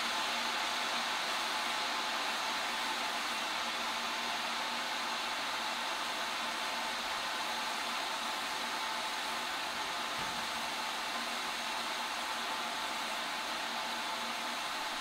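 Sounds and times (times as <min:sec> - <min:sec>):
steam hissing from locomotive: 0:00.0 - 0:15.0.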